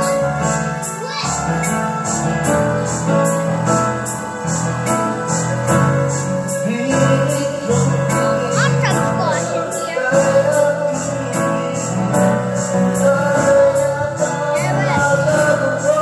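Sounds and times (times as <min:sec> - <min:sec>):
karaoke backing track: 0:00.0 - 0:16.0
piano and keyboard notes: 0:00.0 - 0:16.0
steady beat: 0:00.0 - 0:16.0.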